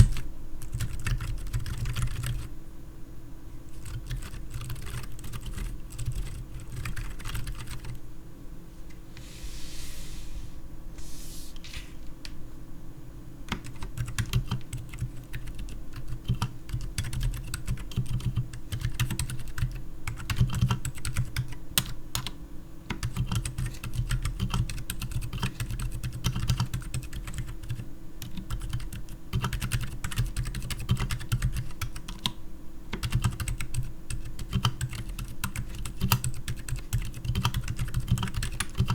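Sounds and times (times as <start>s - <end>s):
mechanical keyboard typing: 0.0s - 2.5s, 3.7s - 8.0s, 13.5s - 32.4s, 33.0s - 38.9s.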